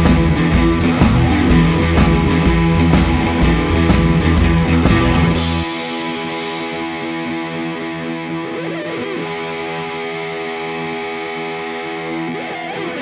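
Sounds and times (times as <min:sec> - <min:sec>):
distorted guitar chords: 0:00.0 - 0:13.0.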